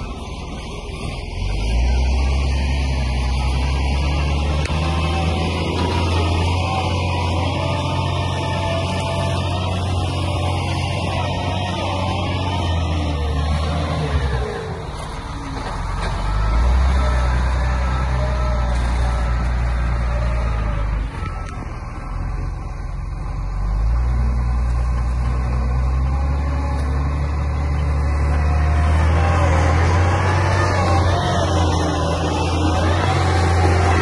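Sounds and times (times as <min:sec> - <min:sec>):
diesel engine under load: 0:00.0 - 0:34.0.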